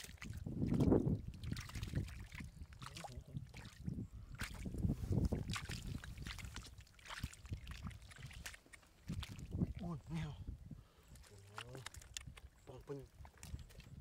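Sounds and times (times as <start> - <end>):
hands squelching through mud: 0.0 - 9.7, 11.0 - 14.0.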